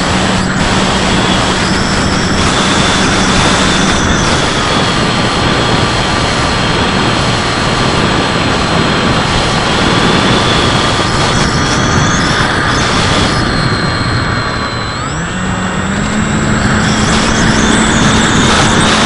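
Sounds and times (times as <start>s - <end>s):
electric motor high whine: 0.0s - 19.0s
rush of air: 0.0s - 19.0s.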